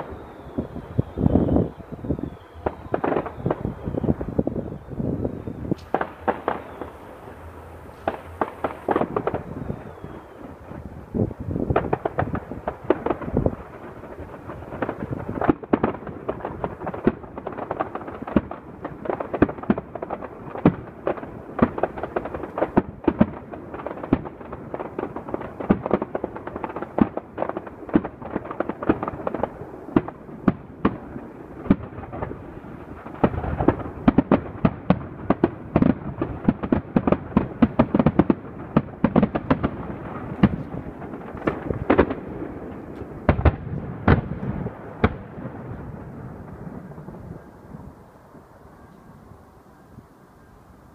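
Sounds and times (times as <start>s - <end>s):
fireworks bangs and crackles: 0.0s - 48.8s.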